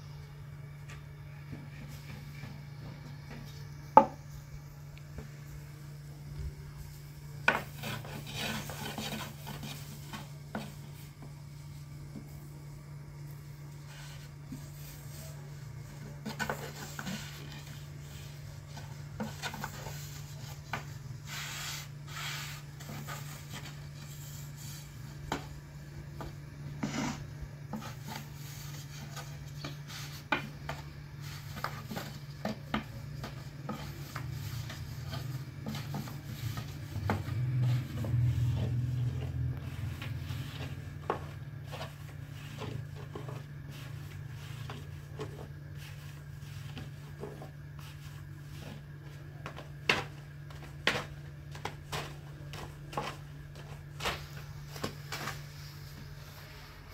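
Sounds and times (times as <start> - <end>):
hands working bread dough: 0.0 - 56.9
steady low hum: 0.0 - 56.9.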